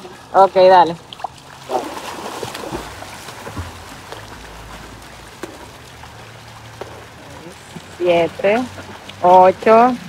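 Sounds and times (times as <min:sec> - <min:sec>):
pool water splashing: 0:00.0 - 0:10.0.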